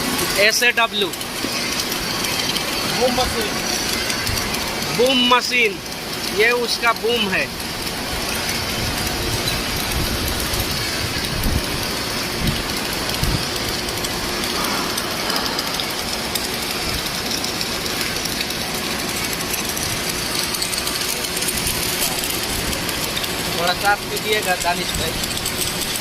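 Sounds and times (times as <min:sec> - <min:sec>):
welding hiss and crackle: 0:00.0 - 0:26.0.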